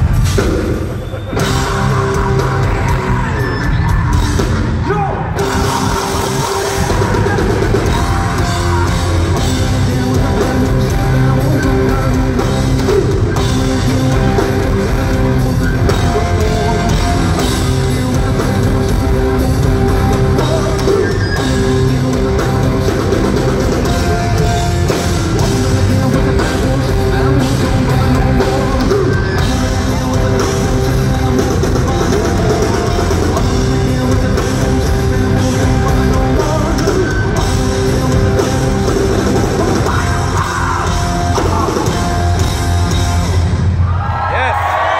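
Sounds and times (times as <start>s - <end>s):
drum kit: 0.0s - 44.9s
guitar: 0.0s - 44.9s
keyboards: 0.0s - 44.9s.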